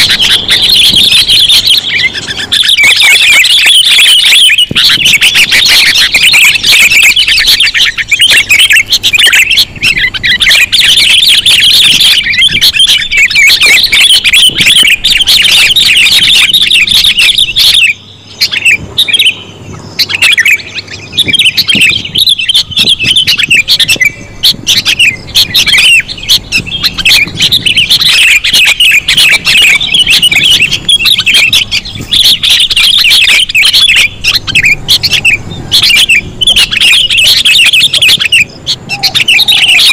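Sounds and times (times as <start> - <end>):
bulbul rapid chirping: 0.0 - 39.9.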